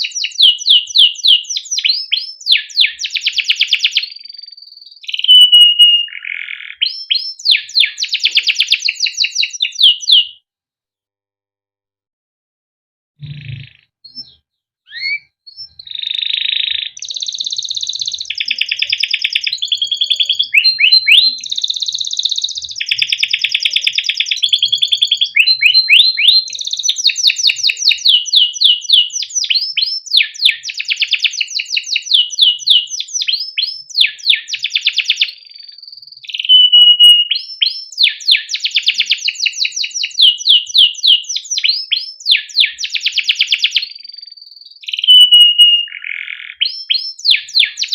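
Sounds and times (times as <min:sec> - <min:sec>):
canary singing trills: 0:00.0 - 0:10.4, 0:13.2 - 0:47.9.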